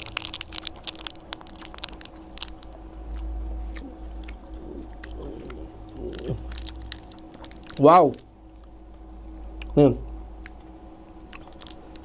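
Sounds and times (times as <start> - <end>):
chewing crunchy snack: 0.0 - 8.8, 10.4 - 12.0.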